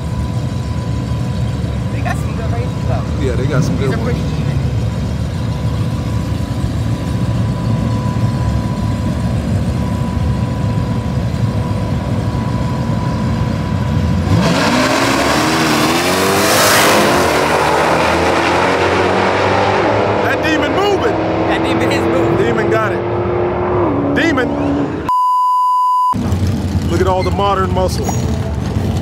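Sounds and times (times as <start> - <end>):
car engines rumbling and revving: 0.0 - 25.2, 26.1 - 29.0.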